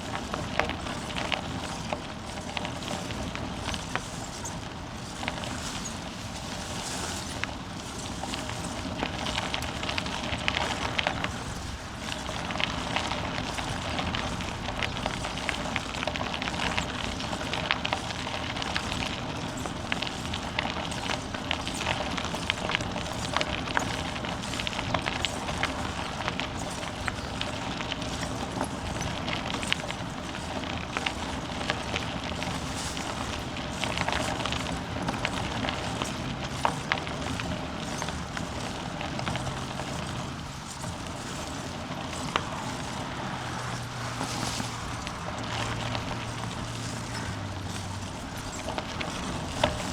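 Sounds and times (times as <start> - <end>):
bicycle tyres rolling on dirt path: 0.0 - 49.9
bike crackles and rattles: 0.0 - 49.9.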